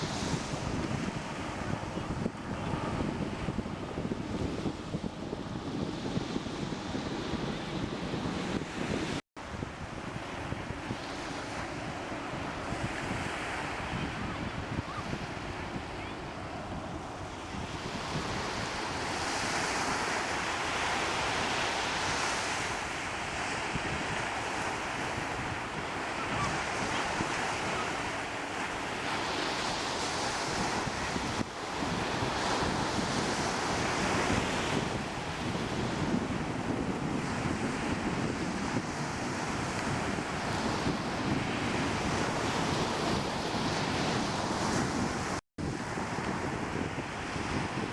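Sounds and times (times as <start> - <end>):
waves washing in: 0.0 - 47.9
wind rumbling on microphone: 0.0 - 47.9.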